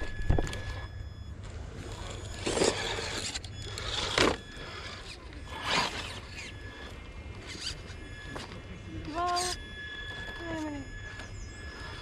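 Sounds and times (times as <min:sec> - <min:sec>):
rc car tyres scraping on rock: 0:01.8 - 0:12.0.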